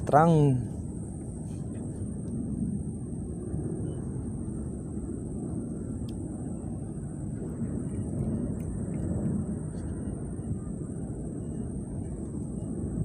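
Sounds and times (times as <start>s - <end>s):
high-pitched whine: 0.0s - 13.0s
low outdoor rumble: 0.0s - 13.0s.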